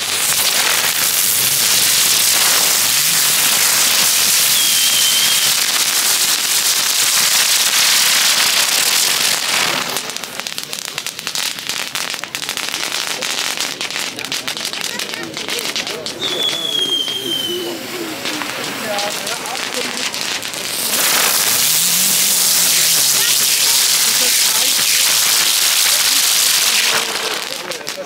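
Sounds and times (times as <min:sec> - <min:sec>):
firework whistle: 0:00.0 - 0:10.3, 0:15.5 - 0:27.9
fireworks crackling: 0:00.0 - 0:28.0
fireworks hissing sparks: 0:00.0 - 0:28.0.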